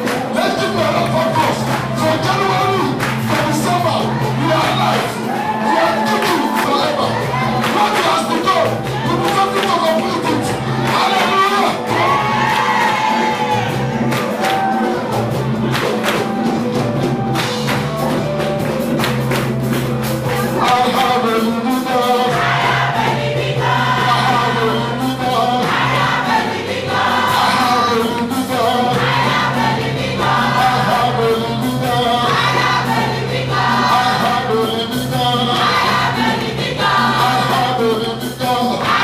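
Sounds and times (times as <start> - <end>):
choir singing gospel song: 0.0 - 18.4, 19.7 - 39.0
instrumental accompaniment: 0.0 - 39.0.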